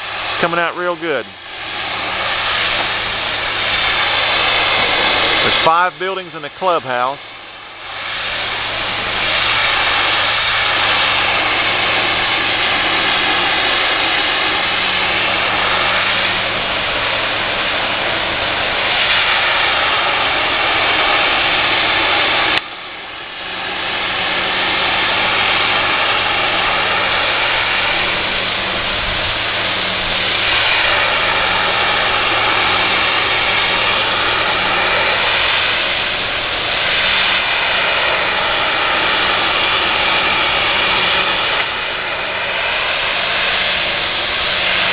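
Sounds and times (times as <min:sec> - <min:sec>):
high-pressure water spray hiss: 0:00.0 - 0:44.9
pressure washer engine running: 0:00.0 - 0:44.9.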